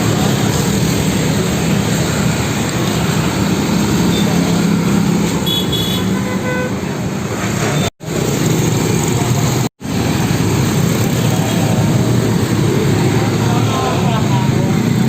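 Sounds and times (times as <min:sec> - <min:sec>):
heavy vehicle traffic: 0:00.0 - 0:15.0.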